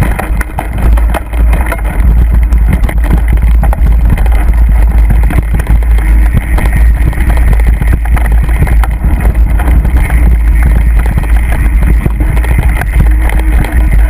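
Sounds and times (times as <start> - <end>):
bike knocking and rattling: 0.0 - 14.0
bike rumbling over dirt trail: 0.0 - 14.0.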